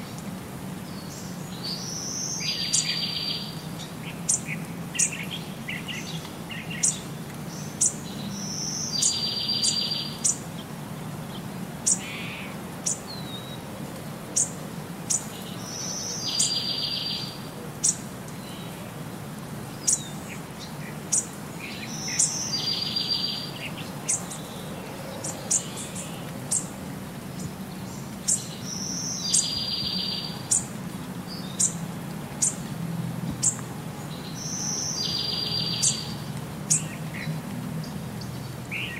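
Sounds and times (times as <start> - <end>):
birds chirping: 0.8 - 13.7, 14.3 - 19.0, 19.6 - 32.7, 33.3 - 38.9.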